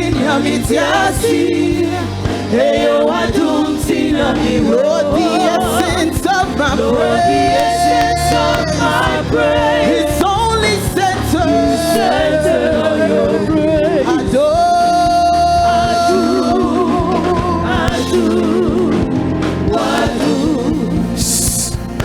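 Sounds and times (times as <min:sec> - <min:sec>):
musical accompaniment: 0:00.0 - 0:22.0
person singing gospel song: 0:00.0 - 0:22.0.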